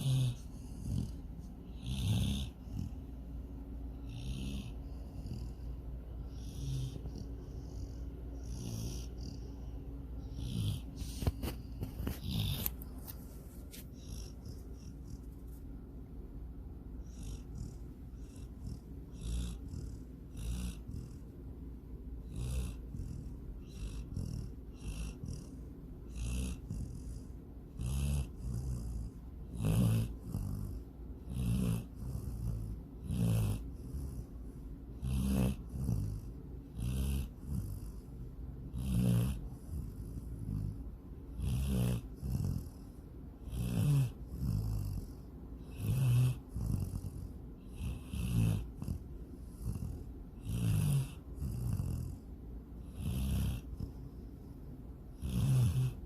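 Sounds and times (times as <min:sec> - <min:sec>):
dog snoring: 0:00.0 - 0:15.6, 0:17.0 - 0:21.3, 0:22.2 - 0:54.5, 0:55.1 - 0:56.0.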